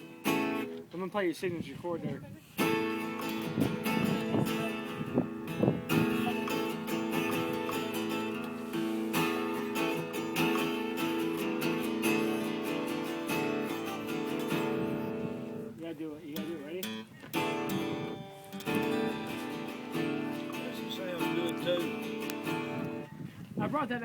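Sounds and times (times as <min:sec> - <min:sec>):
acoustic guitar strumming: 0:00.0 - 0:01.2, 0:02.4 - 0:23.3.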